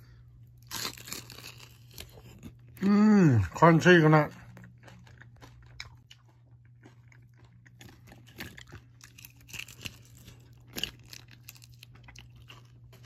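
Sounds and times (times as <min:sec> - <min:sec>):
crunchy chewing: 0:00.6 - 0:02.9, 0:04.2 - 0:13.0.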